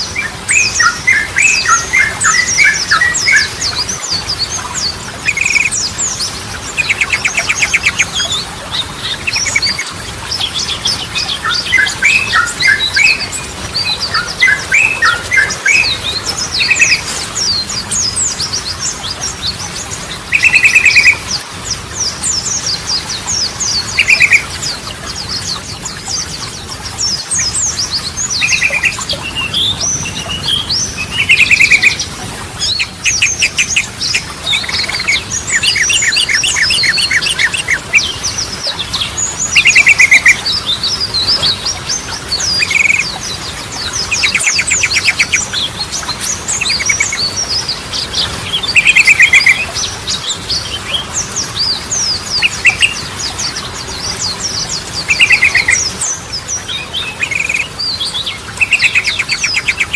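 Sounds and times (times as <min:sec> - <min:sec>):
bird chirping and trilling: 0:00.0 - 0:59.9.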